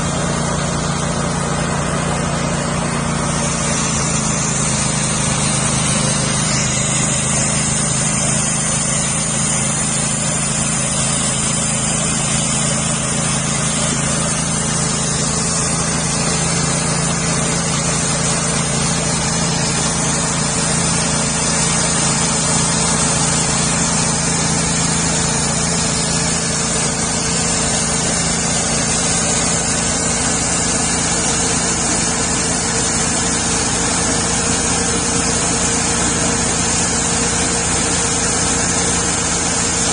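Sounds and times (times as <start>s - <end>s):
small sawmill engine running: 0.0s - 39.9s.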